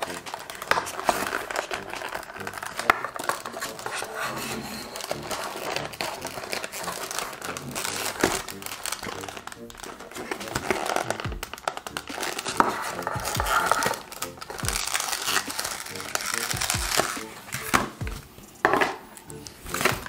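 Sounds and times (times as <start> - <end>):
light background music: 0.0 - 20.0
packaging rustling and crinkling: 0.0 - 20.0.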